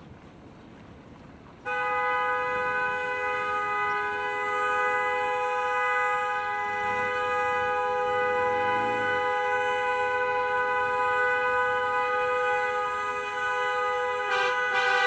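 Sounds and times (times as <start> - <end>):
road noise: 0.0 - 15.0
two-tone car horn blast: 1.7 - 15.0.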